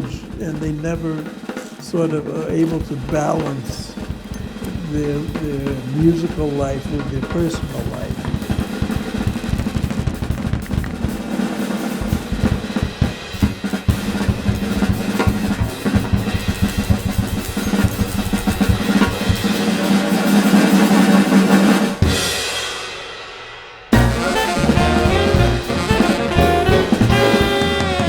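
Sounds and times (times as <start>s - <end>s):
jazz drumming on drum kit: 0.0s - 23.0s, 23.9s - 28.0s.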